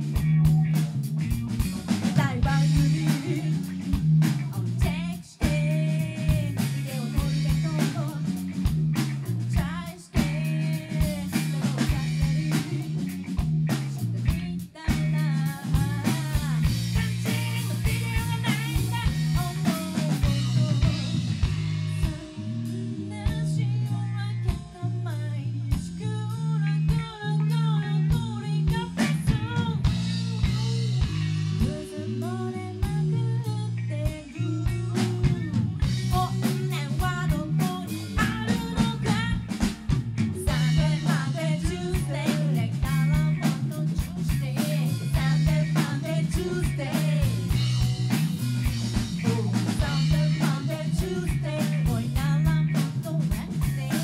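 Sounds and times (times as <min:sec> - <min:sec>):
drum kit beat: 0:00.0 - 0:23.6, 0:26.9 - 0:54.0
bass guitar: 0:00.0 - 0:54.0
electric guitar: 0:00.0 - 0:54.0
woman singing lead: 0:01.7 - 0:54.0.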